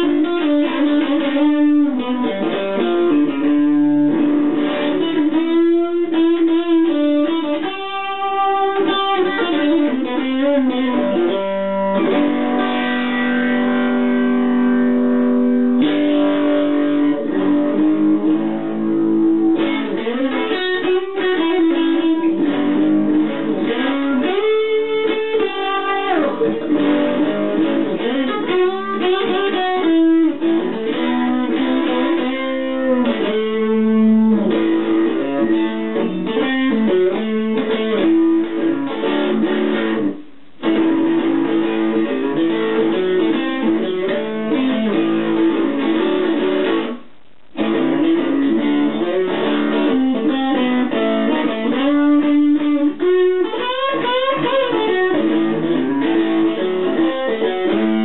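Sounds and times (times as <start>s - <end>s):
electric guitar blues lead: 0.0s - 58.0s.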